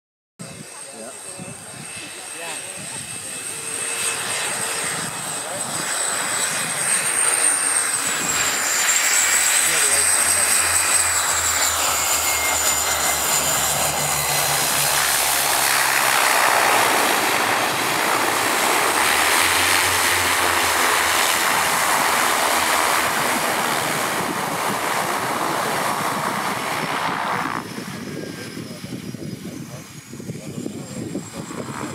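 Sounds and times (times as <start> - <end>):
propeller and engine noise: 0.4 - 31.9.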